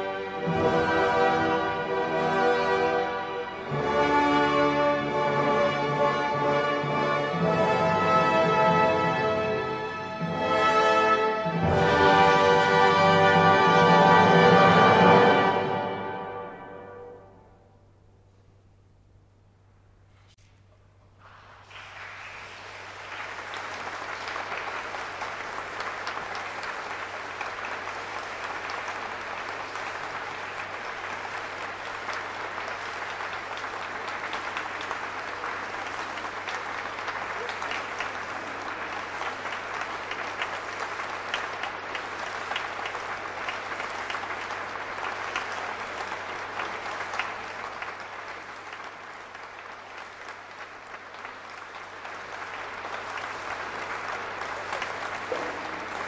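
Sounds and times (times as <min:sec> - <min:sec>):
audience applauding: 0:00.0 - 0:16.9, 0:21.2 - 0:56.0.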